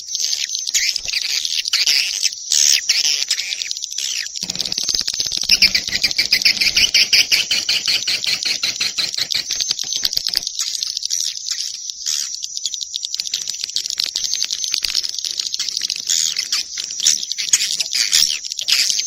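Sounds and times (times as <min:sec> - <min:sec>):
fast clicking chirps: 0:00.0 - 0:19.0
swiftlet twittering chirps: 0:00.0 - 0:19.0.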